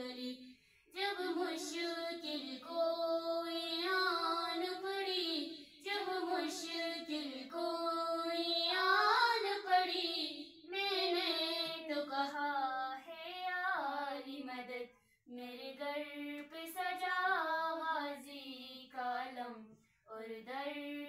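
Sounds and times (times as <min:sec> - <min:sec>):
girl singing into a microphone: 0:00.0 - 0:00.4, 0:01.0 - 0:21.0.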